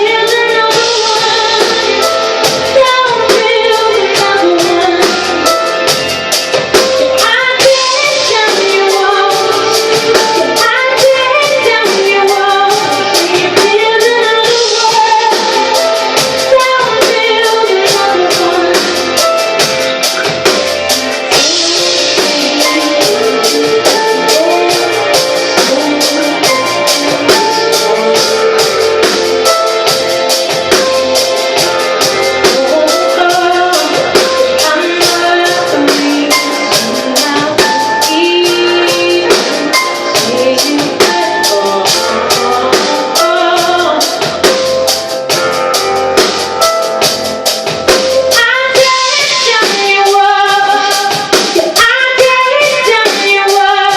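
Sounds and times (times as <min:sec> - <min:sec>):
person singing: 0:00.0 - 0:47.0, 0:48.0 - 0:53.9
drum kit beat: 0:00.0 - 0:53.9
live band playing pop: 0:00.0 - 0:53.9.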